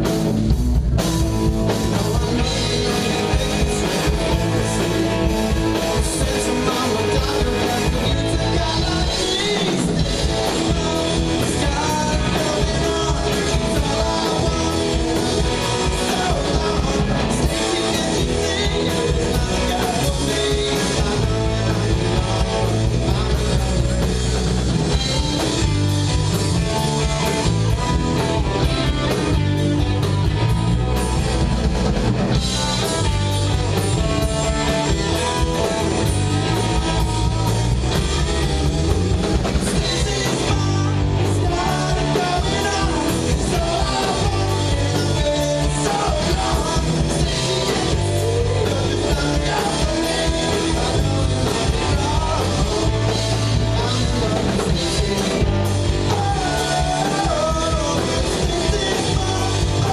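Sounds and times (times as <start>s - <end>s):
drum kit: 0.0s - 59.9s
electric guitar: 0.0s - 59.9s
person singing: 1.7s - 27.4s, 32.8s - 59.9s.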